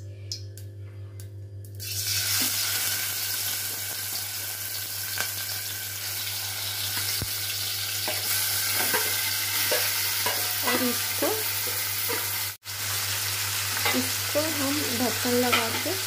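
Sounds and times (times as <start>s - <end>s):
chicken sizzling in hot oil: 1.8s - 16.0s.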